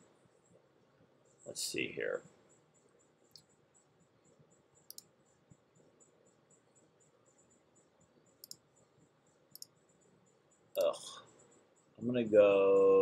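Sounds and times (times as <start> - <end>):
faint high-pitched pulsing tone: 0.0 - 13.0.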